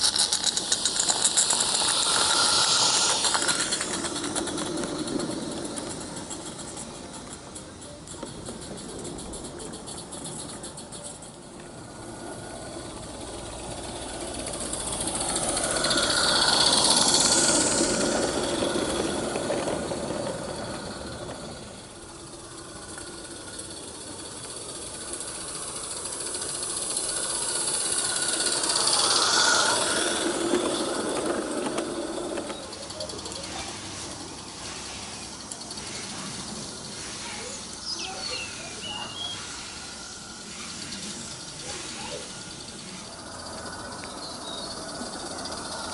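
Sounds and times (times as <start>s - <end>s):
model steam train running: 0.0s - 45.9s.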